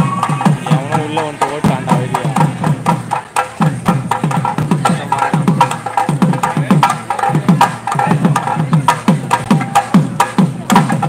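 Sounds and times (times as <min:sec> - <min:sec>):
sharp clicking drum strokes: 0:00.0 - 0:11.0.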